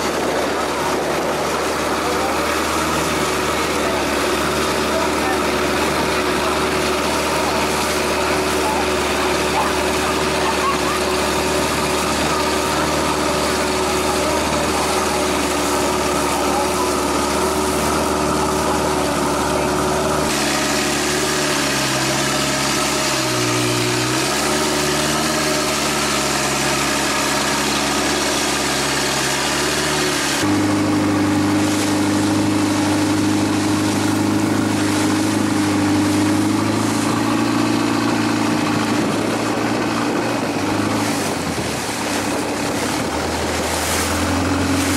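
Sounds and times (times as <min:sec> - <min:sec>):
boat engine droning: 0:00.0 - 0:44.9
rushing water: 0:00.0 - 0:44.9
wind: 0:00.0 - 0:44.9.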